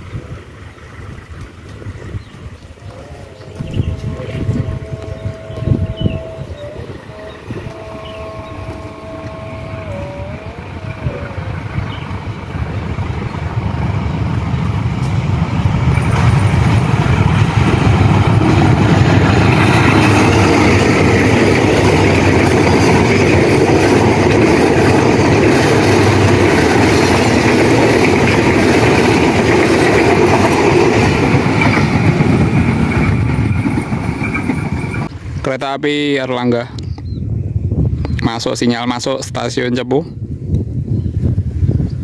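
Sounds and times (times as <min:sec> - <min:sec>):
passenger train passing: 0:00.0 - 0:35.6
wheels running on rails: 0:01.3 - 0:35.1.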